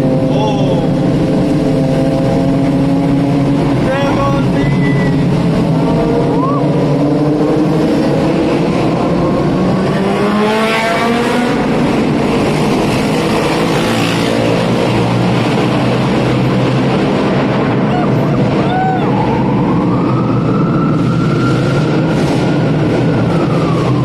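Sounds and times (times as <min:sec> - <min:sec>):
motorcycle engines revving: 0:00.0 - 0:24.0
road and traffic noise: 0:00.0 - 0:24.0.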